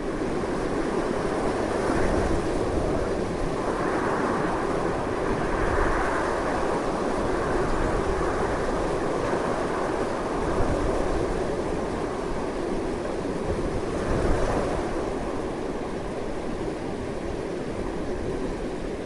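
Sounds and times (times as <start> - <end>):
strong wind blowing: 0.0 - 19.0.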